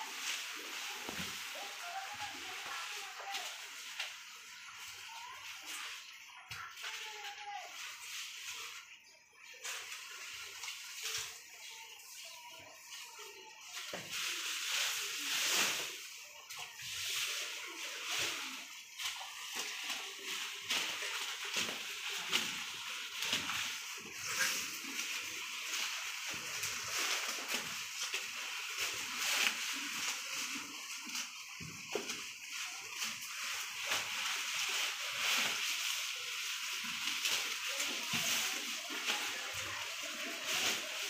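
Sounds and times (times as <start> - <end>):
cows chewing grass: 0.0 - 12.0, 12.6 - 41.0.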